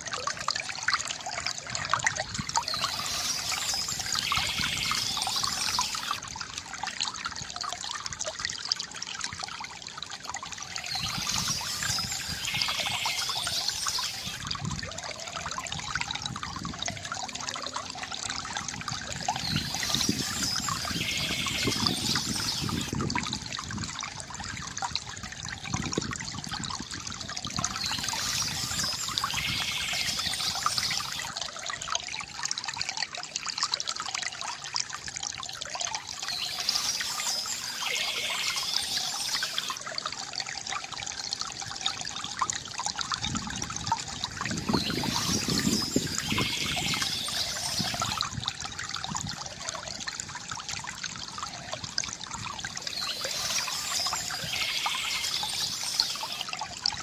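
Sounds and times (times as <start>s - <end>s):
bamboo water fountain trickling: 0.0s - 57.0s.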